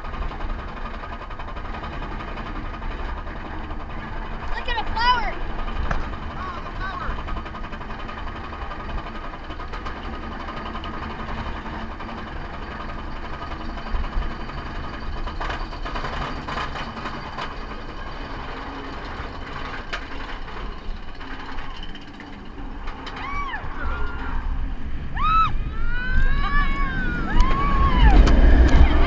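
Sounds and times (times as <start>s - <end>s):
roller coaster chain lift rumble: 0.0s - 29.0s.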